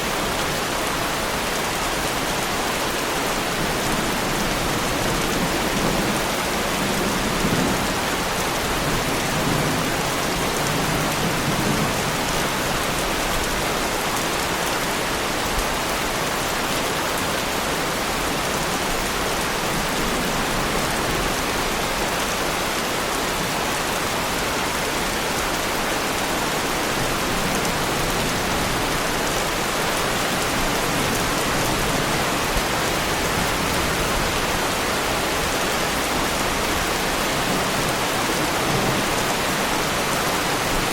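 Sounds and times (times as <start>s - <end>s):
heavy rain on a car body: 0.1s - 40.9s.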